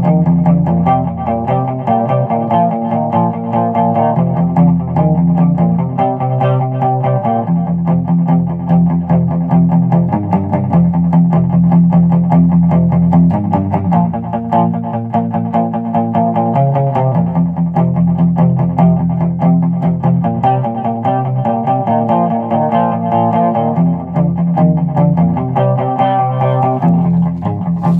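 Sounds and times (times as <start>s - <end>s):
distorted electric guitar boogie: 0.0s - 27.9s.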